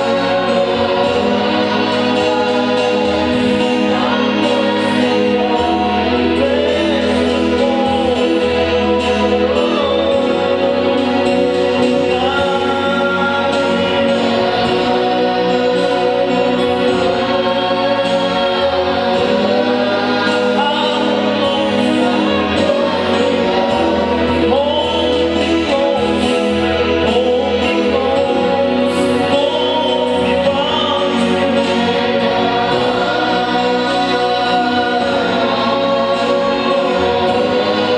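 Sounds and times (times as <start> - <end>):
congregation and choir singing: 0.0 - 37.9
instrumental accompaniment: 0.0 - 37.9.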